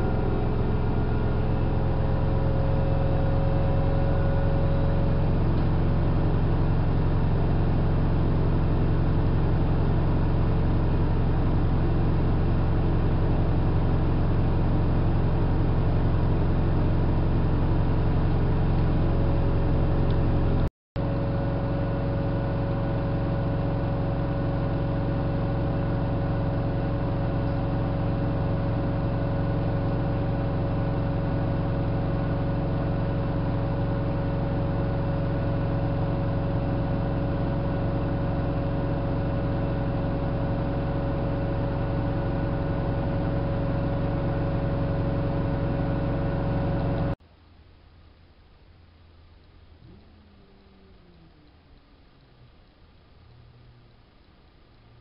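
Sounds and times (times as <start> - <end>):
washing machine running: 0.0 - 47.2.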